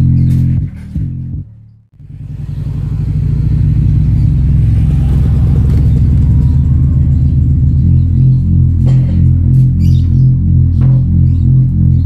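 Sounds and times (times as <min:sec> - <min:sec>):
bass-heavy music through subwoofers: 0:00.0 - 0:12.0.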